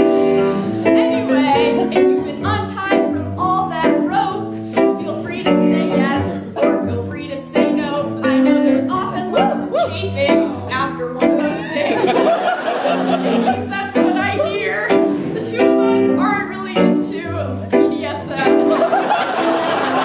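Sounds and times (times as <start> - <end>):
keyboard playing chords: 0.0 - 3.4, 4.0 - 20.0
woman singing: 0.0 - 12.0, 13.6 - 18.4.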